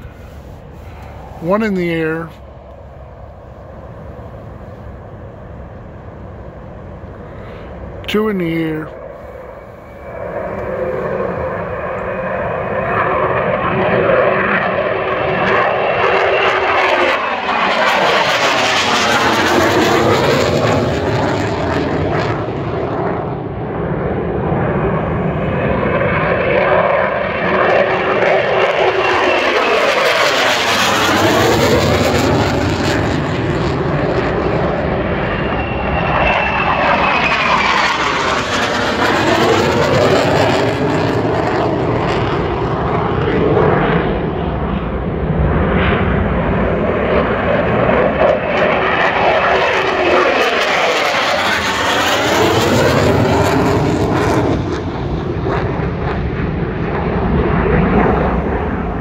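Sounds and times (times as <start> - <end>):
fighter jets roaring overhead: 0.0 - 59.0.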